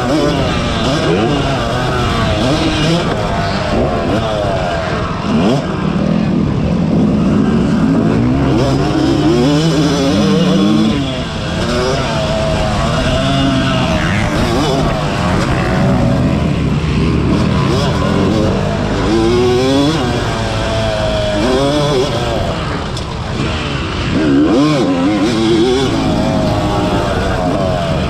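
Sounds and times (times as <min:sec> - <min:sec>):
other engines: 0:00.0 - 0:28.0
two-stroke motorcycle engine revving: 0:00.0 - 0:28.0.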